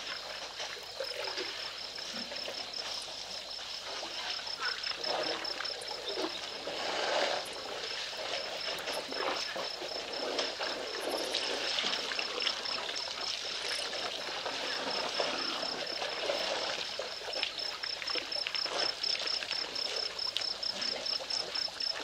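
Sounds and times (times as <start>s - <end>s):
crackling rustling noise: 0.0s - 22.0s
insect chirping: 0.0s - 22.0s.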